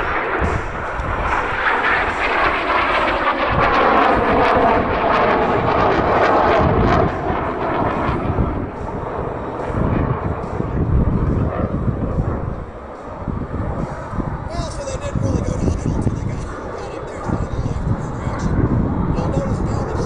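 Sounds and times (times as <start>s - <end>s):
jets flying overhead: 0.0s - 20.0s.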